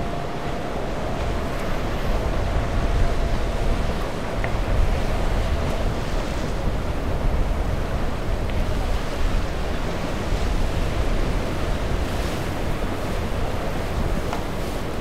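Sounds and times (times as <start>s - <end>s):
surf washing over rocks: 0.0s - 15.0s
wind rumbling on microphone: 0.0s - 15.0s.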